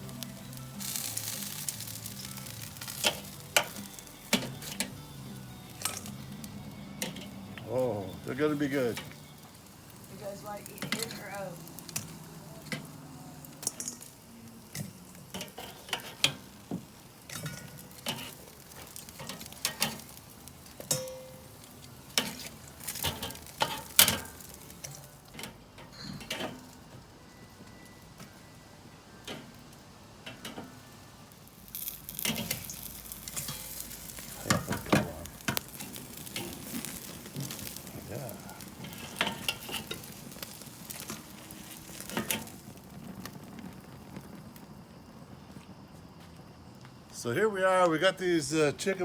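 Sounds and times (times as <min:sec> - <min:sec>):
grill sizzling: 0:00.0 - 0:49.0.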